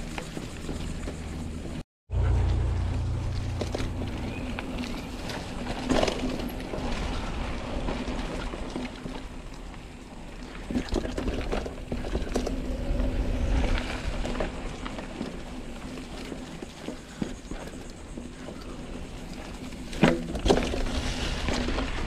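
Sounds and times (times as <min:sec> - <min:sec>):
bike rattling over bumps: 0:00.0 - 0:22.0
bike tyres on dirt trail: 0:00.0 - 0:22.0.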